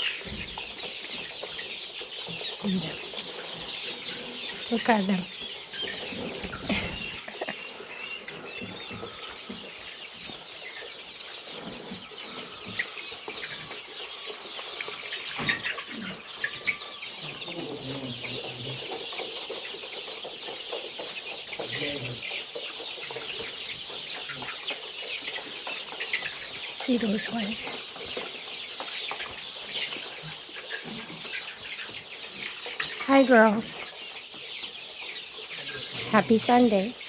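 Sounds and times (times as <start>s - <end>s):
flock of chickens clucking: 0.0s - 37.0s.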